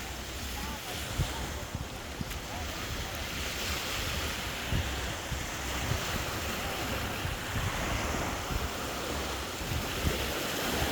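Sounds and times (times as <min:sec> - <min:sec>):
surf washing onto beach: 0:00.0 - 0:10.9
wind buffeting microphone: 0:00.0 - 0:10.9.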